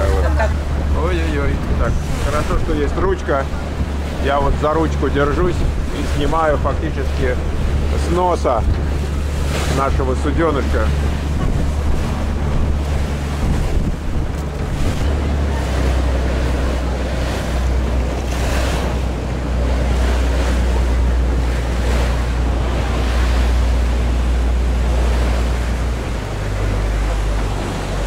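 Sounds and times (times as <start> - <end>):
steady low rumble: 0.0 - 28.0
water splashing against boat hull: 0.0 - 28.0
wind buffeting microphone: 0.0 - 28.0.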